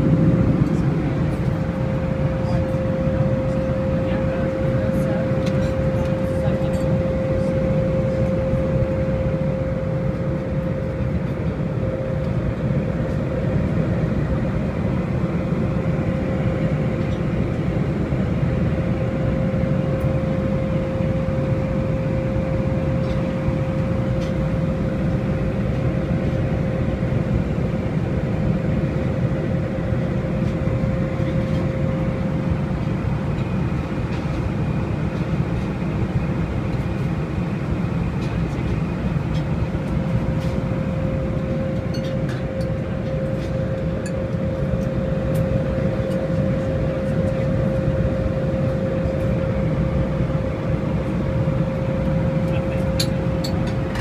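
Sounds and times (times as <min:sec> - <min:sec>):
airliner cabin airflow and engine noise: 0:00.0 - 0:54.0.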